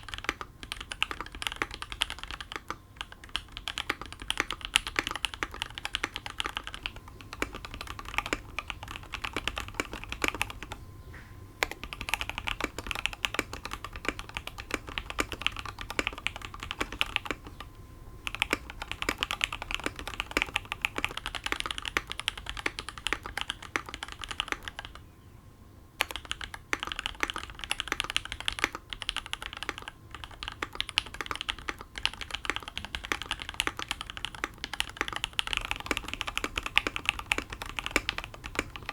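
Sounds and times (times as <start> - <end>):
mechanical keyboard typing: 0.0 - 10.8, 11.6 - 25.0, 26.0 - 38.9.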